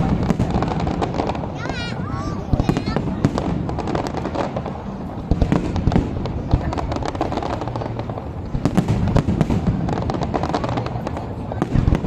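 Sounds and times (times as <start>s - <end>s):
fireworks crackling and banging: 0.0s - 12.0s
sharp firework cracks: 0.0s - 12.0s.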